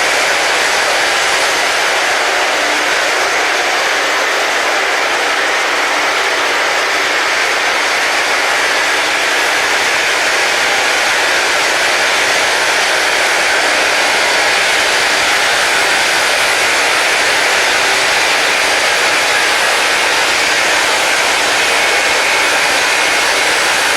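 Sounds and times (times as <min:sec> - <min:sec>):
rail grinding wheels hissing: 0:00.0 - 0:23.9.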